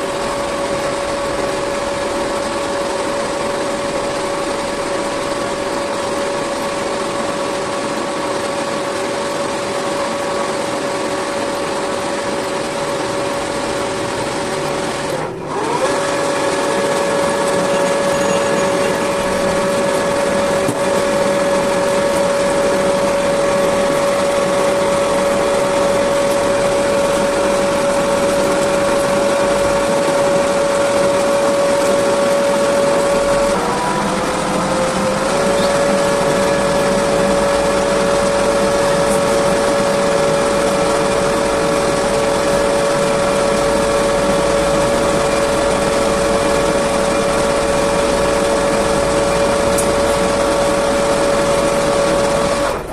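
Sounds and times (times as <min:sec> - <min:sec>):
metal lathe motor whine: 0:00.0 - 0:52.9.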